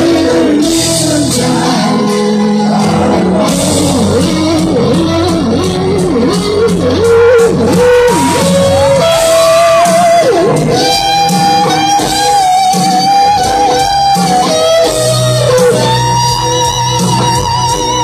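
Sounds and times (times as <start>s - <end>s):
electric guitar solo: 0.0s - 18.0s
live rock band backing: 0.0s - 18.0s.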